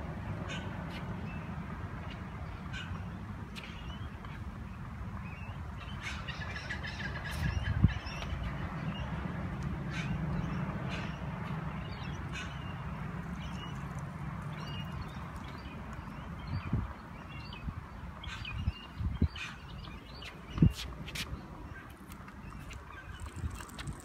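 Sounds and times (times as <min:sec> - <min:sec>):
birds chirping: 0:00.4 - 0:09.3, 0:09.9 - 0:24.0.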